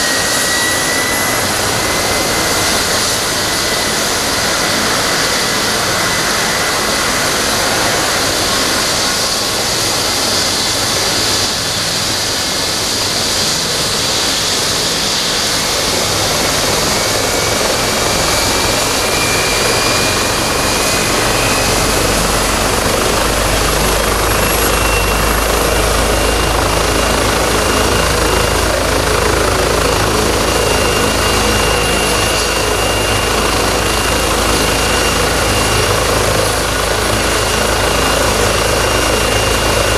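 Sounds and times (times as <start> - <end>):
helicopter rotor beat: 0.0 - 39.9
helicopter turbine whine: 0.0 - 39.9.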